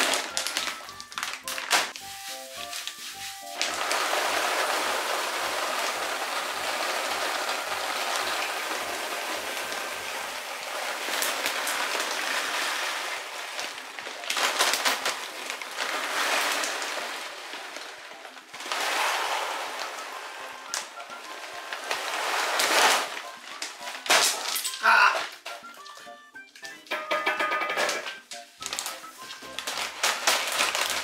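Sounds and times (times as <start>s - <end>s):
plastic bag rustling: 0.0s - 26.9s, 27.9s - 31.0s.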